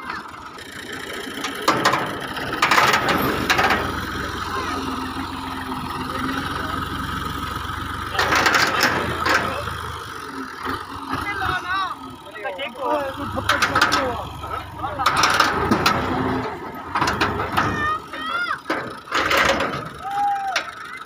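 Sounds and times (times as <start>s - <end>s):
rattling and clatter bursts: 0.0s - 21.0s
tractor diesel engine idling: 0.0s - 21.0s.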